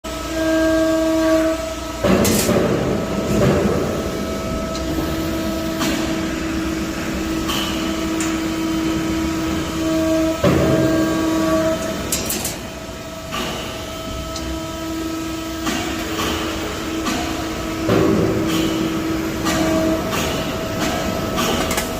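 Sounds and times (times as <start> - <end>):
machine working surges: 0.1 - 21.9
press brake machine hum: 0.1 - 21.9.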